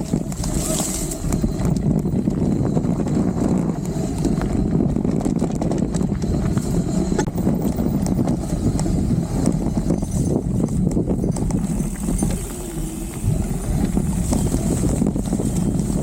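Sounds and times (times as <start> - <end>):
bike knocks and rattles: 0.0 - 16.0
bike tyres rumbling on dirt: 0.0 - 16.0.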